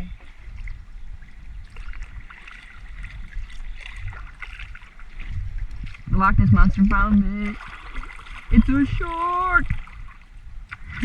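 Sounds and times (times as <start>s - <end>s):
small splashes: 0.0s - 11.0s
steady low rumble: 0.0s - 11.0s
water lapping around hull: 0.0s - 11.0s.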